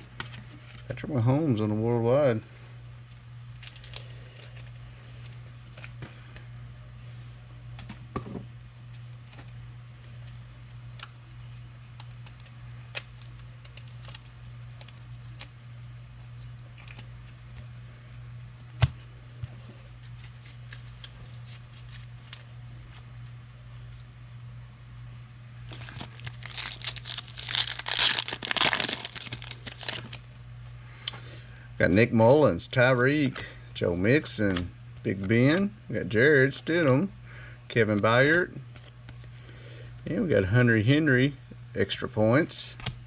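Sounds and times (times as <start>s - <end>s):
low hum: 0.0s - 41.9s.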